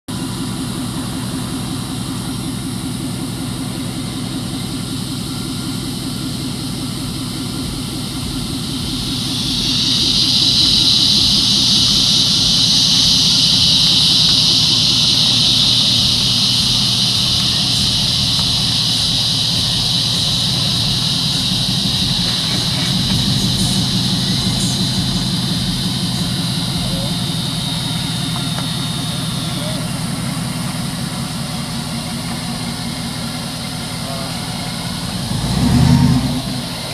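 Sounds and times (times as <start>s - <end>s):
pickup engine idling: 0.0s - 36.9s
loud high-pitched hiss: 0.2s - 36.9s.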